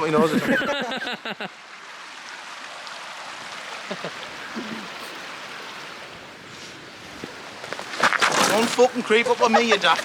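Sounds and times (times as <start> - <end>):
flowing stream water: 0.0 - 10.0.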